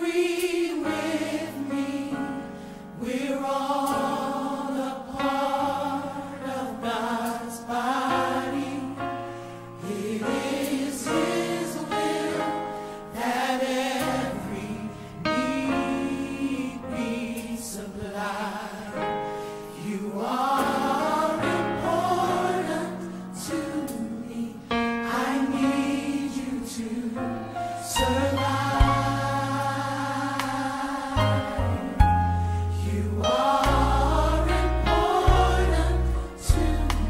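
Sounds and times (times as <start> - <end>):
choir singing slowly: 0.0 - 37.0.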